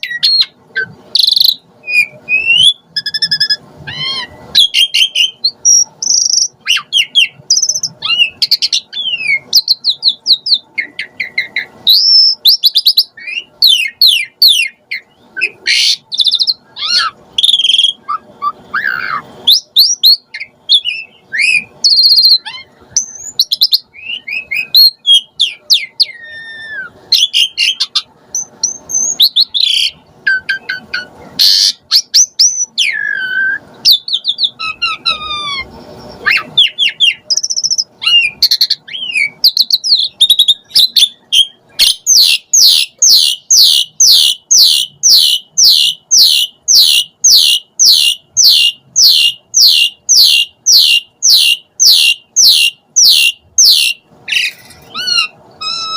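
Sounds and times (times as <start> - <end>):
starling singing: 0.0 - 55.9.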